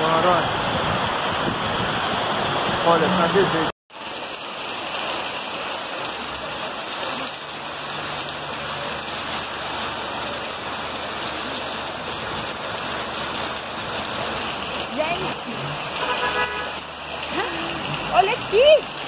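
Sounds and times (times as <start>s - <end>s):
floodwater rushing: 0.0s - 19.0s
heavy rain: 0.0s - 19.0s.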